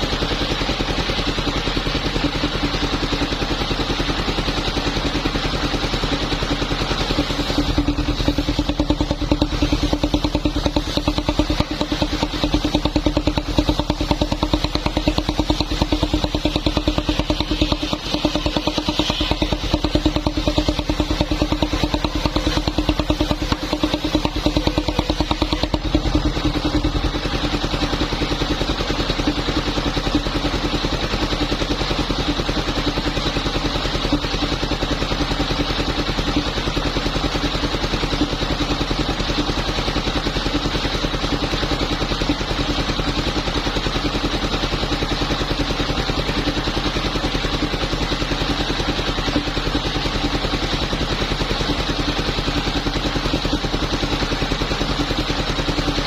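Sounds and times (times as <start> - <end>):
engine-powered wood saw running: 0.0 - 56.0.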